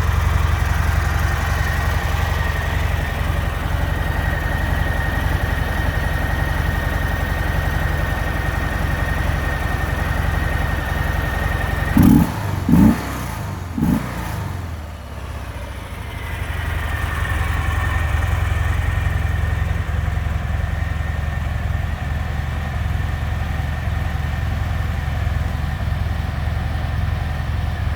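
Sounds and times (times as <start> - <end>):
motorcycle engine idling and revving: 0.0 - 27.9.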